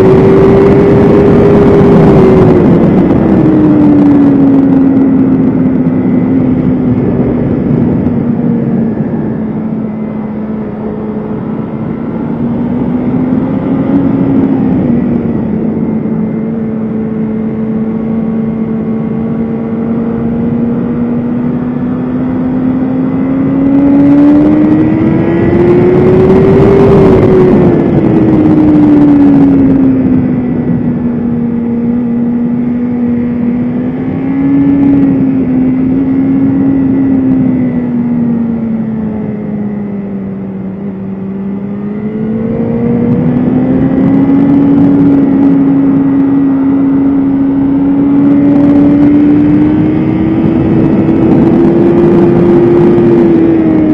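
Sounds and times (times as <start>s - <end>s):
motorcycle engine revving: 0.0s - 53.9s
wind rush: 0.0s - 53.9s.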